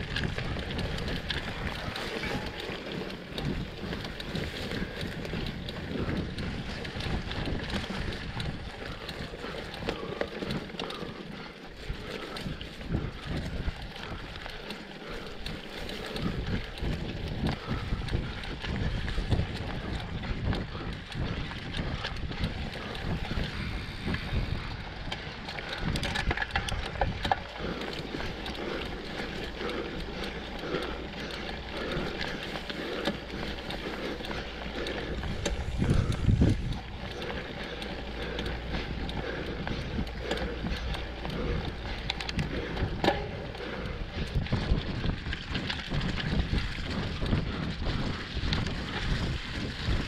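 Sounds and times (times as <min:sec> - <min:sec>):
steady low rumble: 0:00.0 - 0:50.0
wind buffeting microphone: 0:00.0 - 0:50.0.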